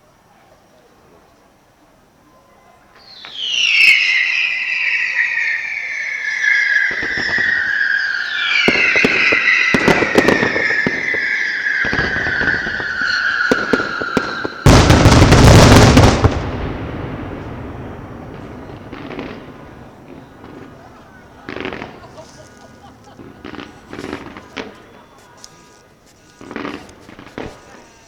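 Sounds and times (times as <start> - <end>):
fireworks bangs: 3.0 - 28.0
fireworks crackling pops: 3.0 - 28.0
fireworks whistle: 3.0 - 28.0.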